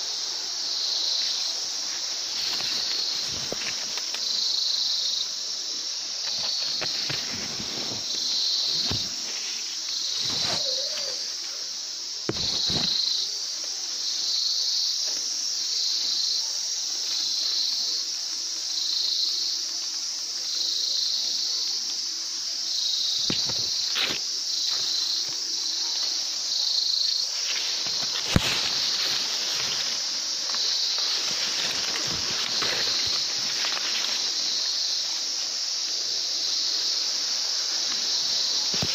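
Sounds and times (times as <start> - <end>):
high insect chorus: 0.0 - 38.9.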